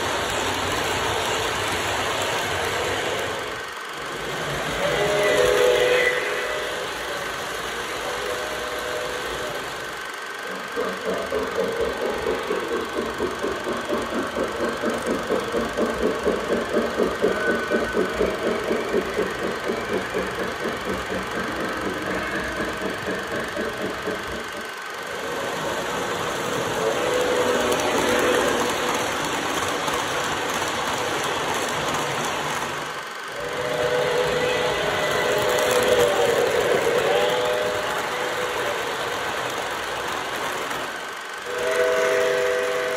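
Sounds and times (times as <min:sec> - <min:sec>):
model steam locomotive chuffing: 0:00.0 - 0:42.9
model train cars rumbling: 0:00.0 - 0:42.9.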